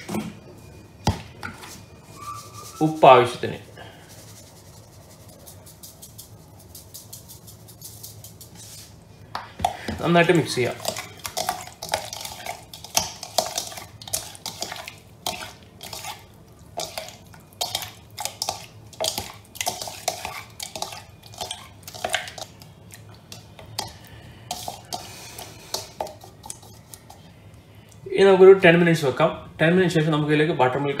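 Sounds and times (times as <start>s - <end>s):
hand mixing wet fish in bowl: 2.0s - 9.0s, 9.6s - 29.1s.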